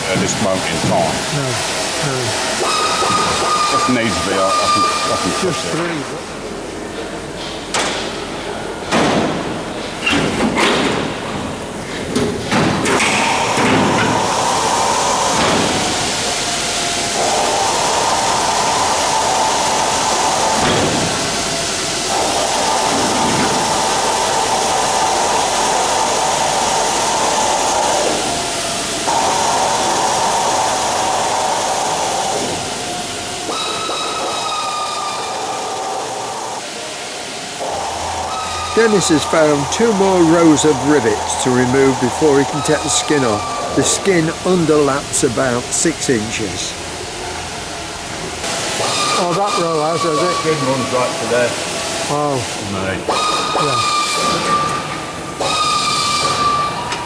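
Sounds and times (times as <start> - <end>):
workshop machinery whirring: 0.0 - 57.0
steady hiss: 9.4 - 56.8.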